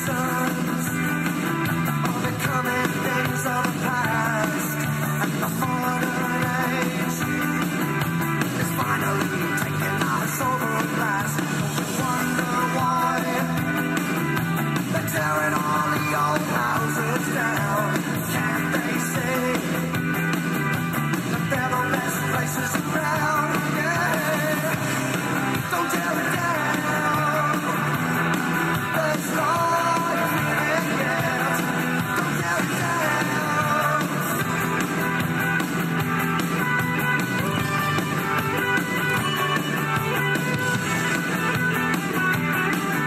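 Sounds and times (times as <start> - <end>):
rock song with singing: 0.0 - 43.0.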